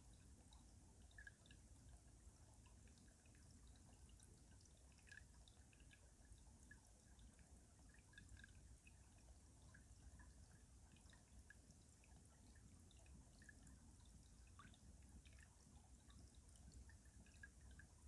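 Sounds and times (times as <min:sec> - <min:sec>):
water dripping and trickling under ice: 0:00.0 - 0:18.0.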